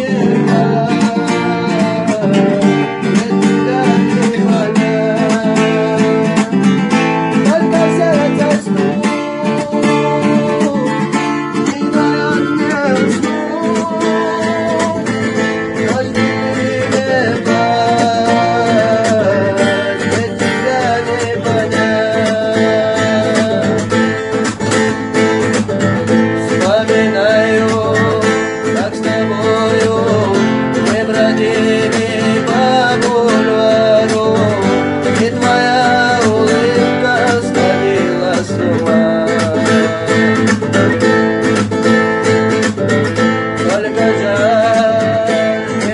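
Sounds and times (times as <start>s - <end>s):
acoustic guitar music: 0.0s - 45.9s.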